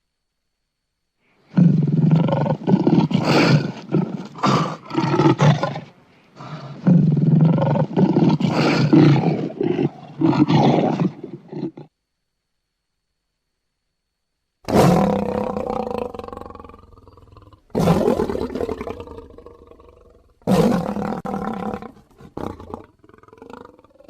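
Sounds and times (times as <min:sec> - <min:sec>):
lion roaring: 0:01.5 - 0:11.9, 0:14.7 - 0:24.0.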